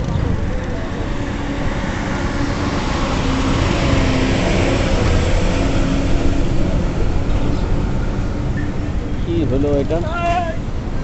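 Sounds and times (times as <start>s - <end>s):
road and wind noise: 0.0s - 11.0s
traffic: 0.0s - 11.0s.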